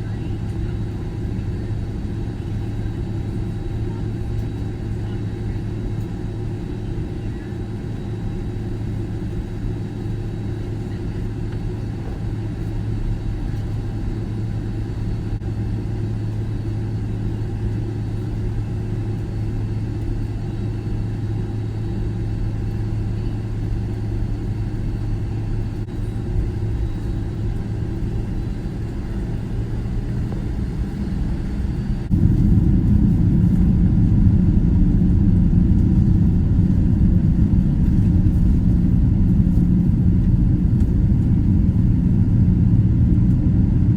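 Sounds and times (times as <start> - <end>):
jet engines humming: 0.0 - 43.9.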